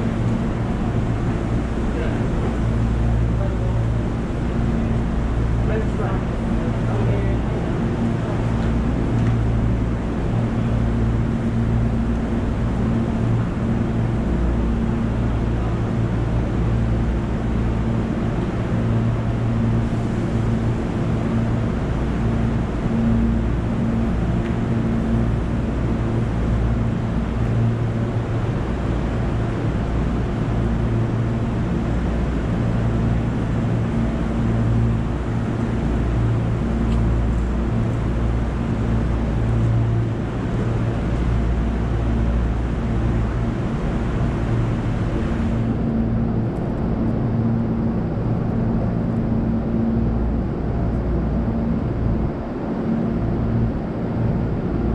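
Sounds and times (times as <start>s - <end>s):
electric train humming: 0.0s - 47.4s.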